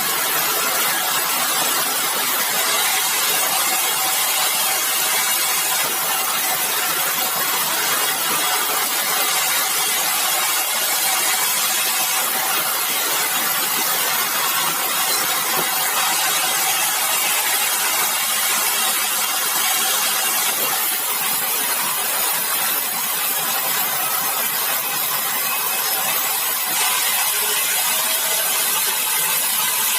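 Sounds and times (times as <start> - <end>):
sawmill machinery running: 0.0 - 29.9.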